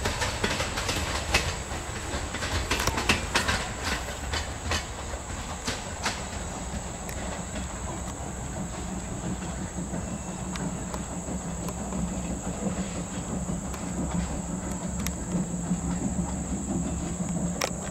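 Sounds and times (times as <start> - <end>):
steam hissing: 0.0 - 17.9
train rumbling on track: 0.0 - 17.9
wheels clicking on rail: 0.0 - 17.9.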